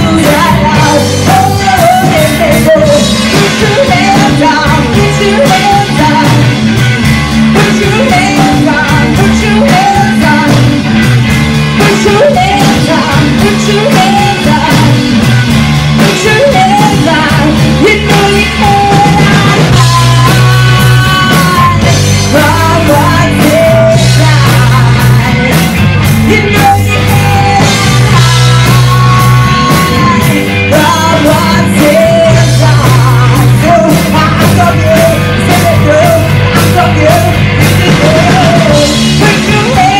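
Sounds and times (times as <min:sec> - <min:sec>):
rock band playing: 0:00.0 - 0:39.9
woman singing: 0:00.0 - 0:39.9.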